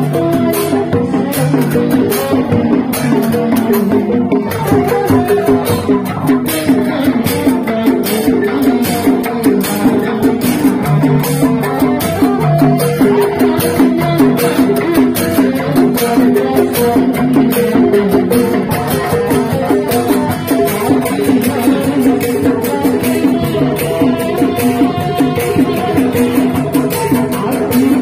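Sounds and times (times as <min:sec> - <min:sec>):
drums and cymbals beat: 0:00.0 - 0:28.0.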